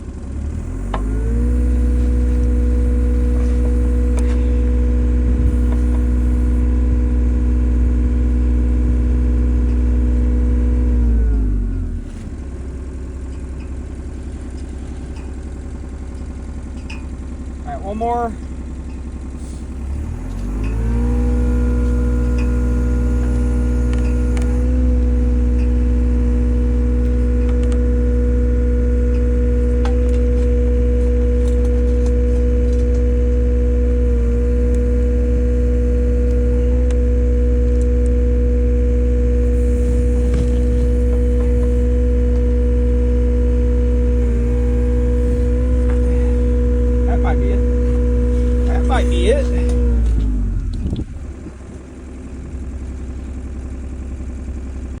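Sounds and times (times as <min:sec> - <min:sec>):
heavy machine engine revving: 0:00.0 - 0:13.2, 0:14.0 - 0:54.0.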